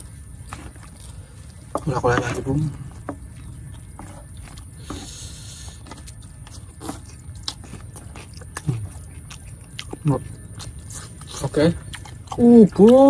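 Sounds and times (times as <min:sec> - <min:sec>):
chewing and mouth sounds: 0:00.0 - 0:13.0.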